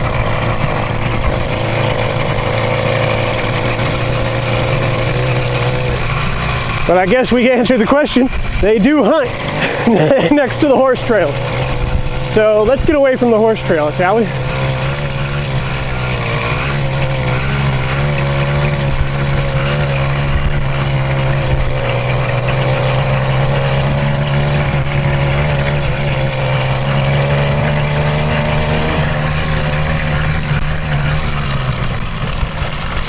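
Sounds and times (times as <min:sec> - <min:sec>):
two-stroke bicycle engine running: 0:00.0 - 0:33.0.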